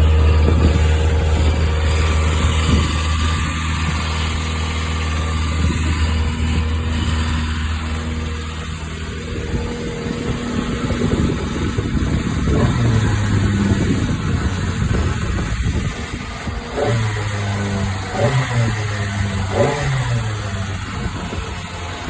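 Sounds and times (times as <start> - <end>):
motorcycle engine running: 0.0 - 22.0
motorcycle throttle blips: 0.0 - 22.0.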